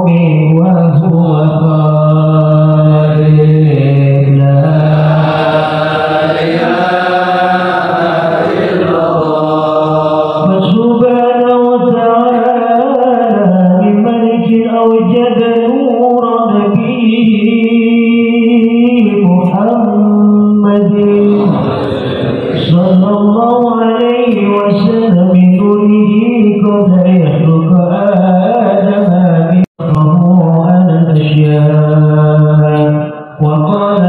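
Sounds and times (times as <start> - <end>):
man chanting religious verses: 0.0 - 34.0.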